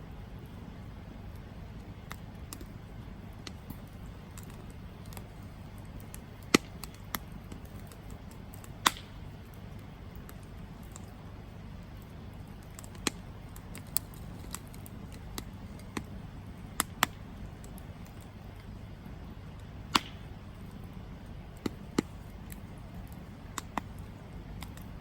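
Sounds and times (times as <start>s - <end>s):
low steady fire rush: 0.0s - 25.0s
burning wood pops and crackles: 0.4s - 25.0s.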